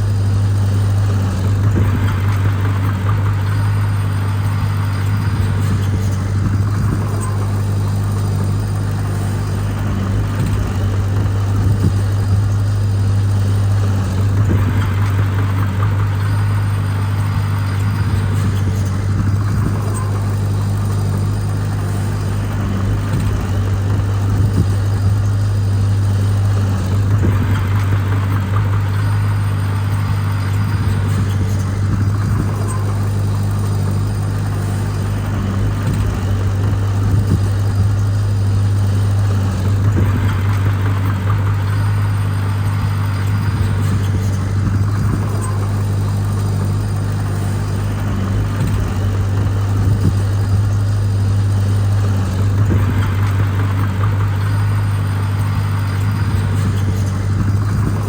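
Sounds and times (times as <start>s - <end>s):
diesel engine droning: 0.0s - 58.0s
rough grinding noise: 0.0s - 58.0s.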